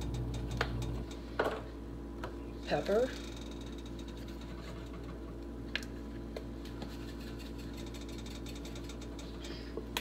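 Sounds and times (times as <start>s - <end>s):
kitchen hum: 0.0s - 10.0s.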